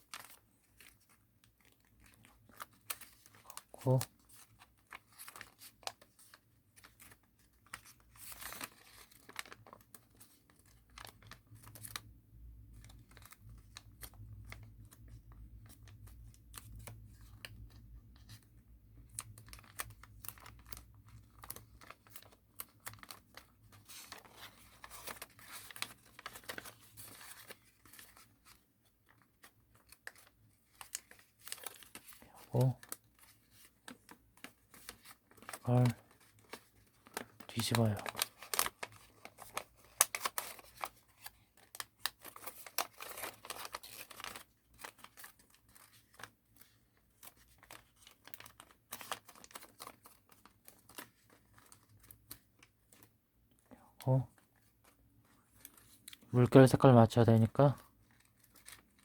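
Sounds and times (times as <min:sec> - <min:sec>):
paper crinkling and rustling: 0:00.0 - 0:59.0.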